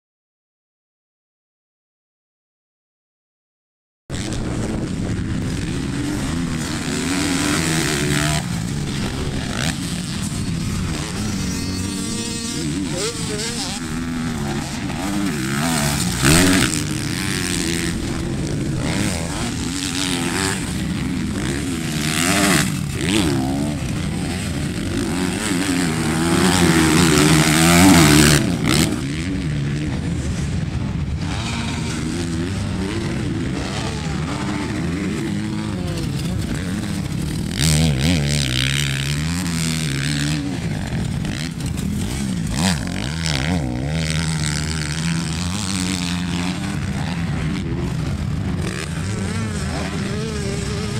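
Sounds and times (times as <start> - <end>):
dirt bike engines revving: 4.1 - 50.9.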